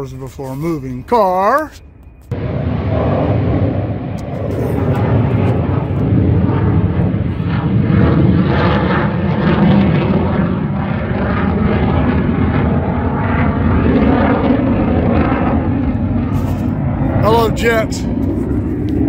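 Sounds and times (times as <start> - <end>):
jet aircraft flying overhead: 0.0 - 19.0.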